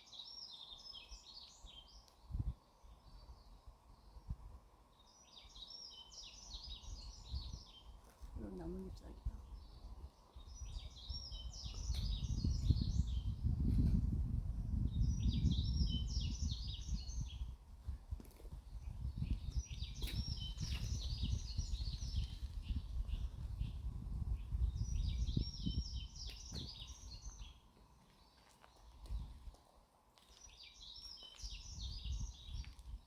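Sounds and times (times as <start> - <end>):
songbird chirping: 0.0 - 14.0, 14.7 - 17.6, 18.2 - 33.0.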